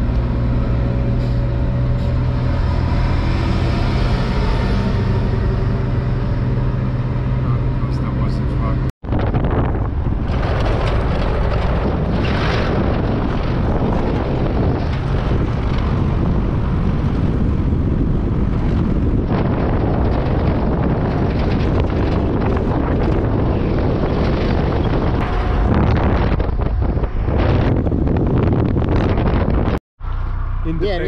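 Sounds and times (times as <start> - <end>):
wind rushing over microphone: 0.0 - 29.8
truck road and engine noise: 0.0 - 31.0.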